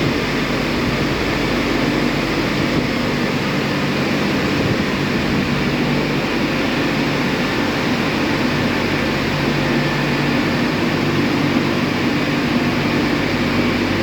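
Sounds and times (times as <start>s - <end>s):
car wash drying blowers: 0.0s - 14.0s.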